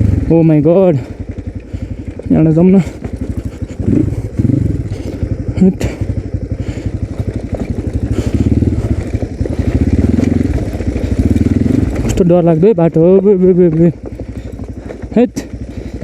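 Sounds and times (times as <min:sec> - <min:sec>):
dirt bike engine at low revs: 0:00.0 - 0:16.0.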